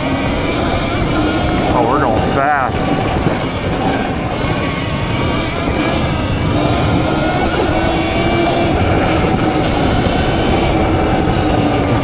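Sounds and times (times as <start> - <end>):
electric motor whine: 0.0 - 12.0
rushing wind: 0.0 - 12.0
tyre noise: 0.0 - 12.0.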